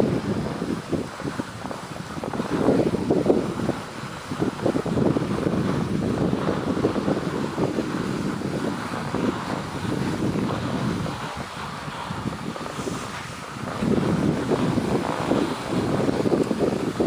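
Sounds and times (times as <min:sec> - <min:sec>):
skis scraping on packed snow: 0:00.0 - 0:17.0
wind buffeting microphone: 0:00.0 - 0:17.0.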